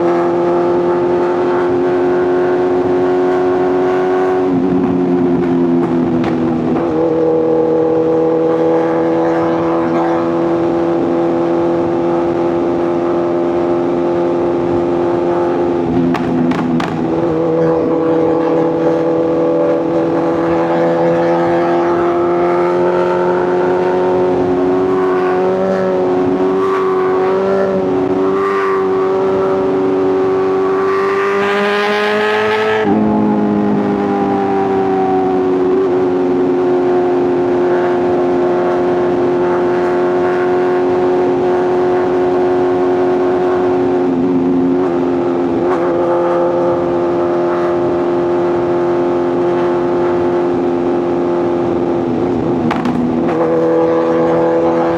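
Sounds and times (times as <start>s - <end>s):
motorcycle engine and exhaust: 0.0s - 54.9s.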